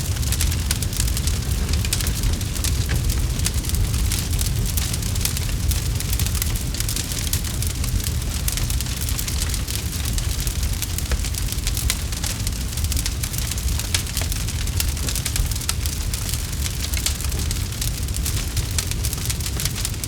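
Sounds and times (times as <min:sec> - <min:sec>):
campfire pops and snaps: 0:00.0 - 0:20.0
low rumble of fire: 0:00.0 - 0:20.0.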